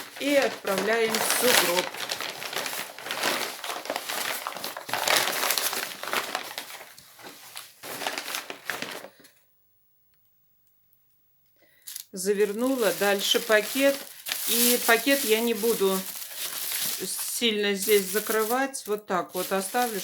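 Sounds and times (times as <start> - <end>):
thick paper rustling: 0.0 - 9.2, 12.2 - 20.0.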